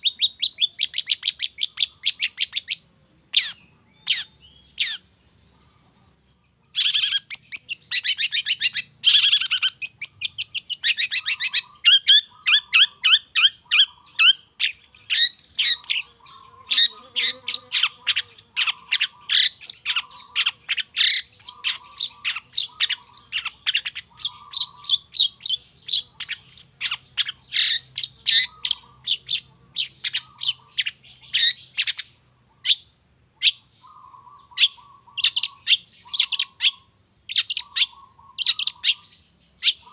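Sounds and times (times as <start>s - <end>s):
bird chattering song: 0.0s - 39.9s
low buzzy bird chatter: 0.0s - 39.9s.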